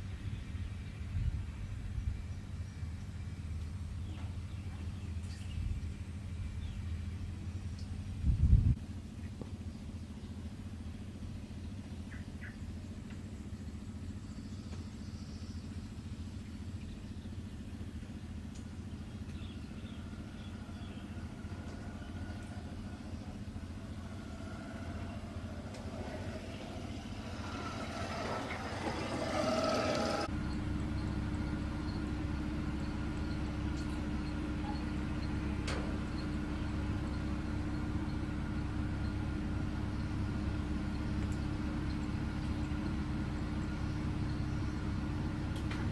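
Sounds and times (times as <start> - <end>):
low motor-like rumble: 0.0 - 45.9.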